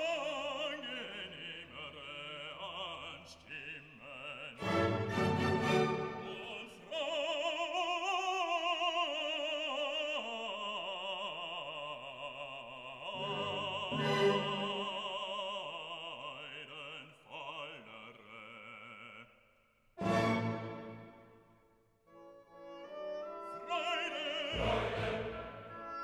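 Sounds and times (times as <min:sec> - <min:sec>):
operatic voice singing: 0:00.0 - 0:19.4, 0:23.2 - 0:26.0.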